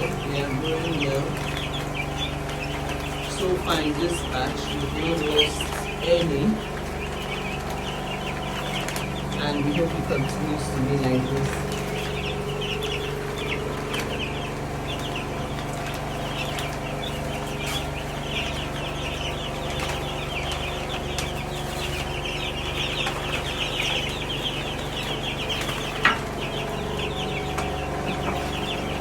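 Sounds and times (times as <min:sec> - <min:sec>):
chicks peeping: 0:00.0 - 0:29.0
steady low hum: 0:00.0 - 0:29.0.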